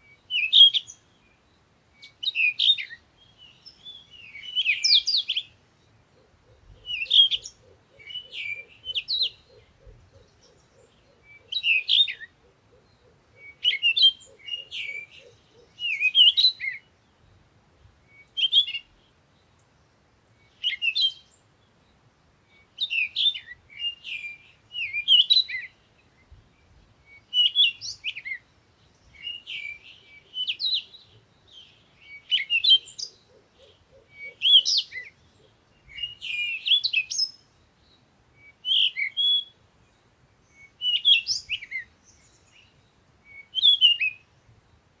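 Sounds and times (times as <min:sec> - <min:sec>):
birds chirping and singing: 0:02.0 - 0:19.6, 0:22.5 - 0:39.5, 0:40.5 - 0:44.3.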